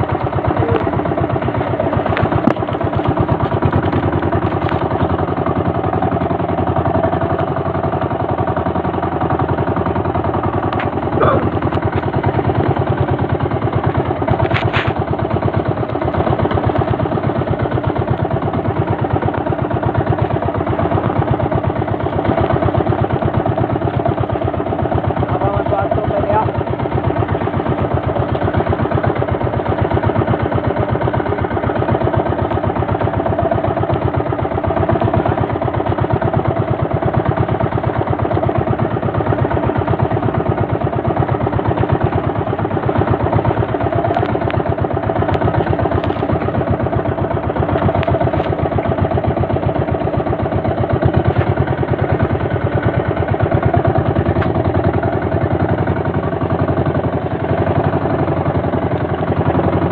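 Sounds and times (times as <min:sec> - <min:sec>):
small boat engine running: 0:00.0 - 0:59.9.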